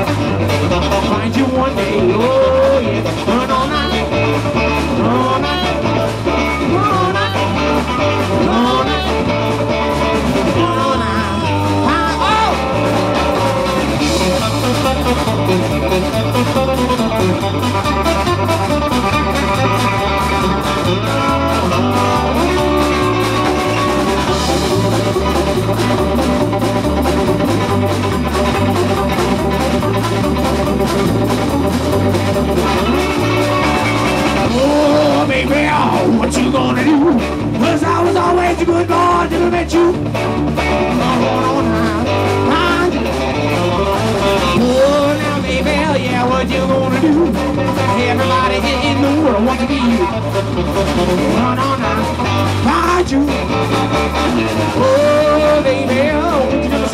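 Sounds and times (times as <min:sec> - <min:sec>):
drums: 0:00.0 - 0:56.9
electric guitars: 0:00.0 - 0:56.9
repeating bass line: 0:00.0 - 0:56.9.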